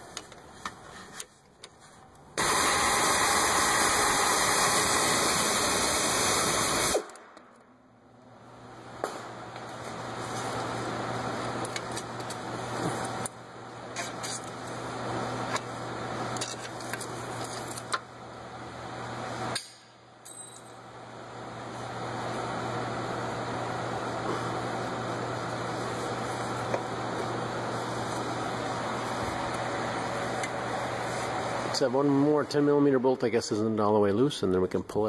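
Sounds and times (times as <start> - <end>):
steady low hum and hiss: 6.8 - 35.0.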